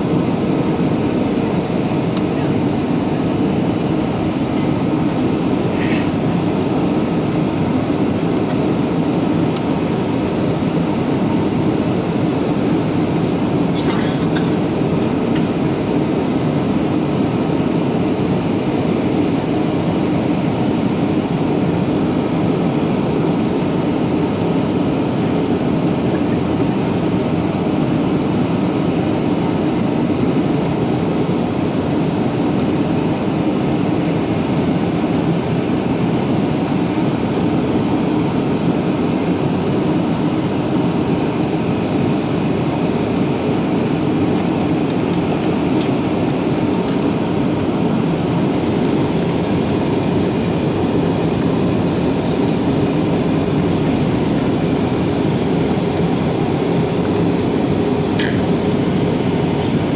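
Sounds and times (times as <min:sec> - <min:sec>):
jet engines humming: 0:00.0 - 0:59.9.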